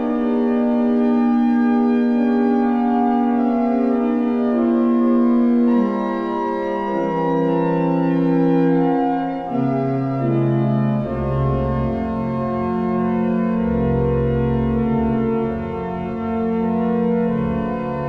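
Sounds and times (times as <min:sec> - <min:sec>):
deep organ pedal note: 0:00.0 - 0:18.0
pipe organ sustained chords: 0:00.0 - 0:18.0.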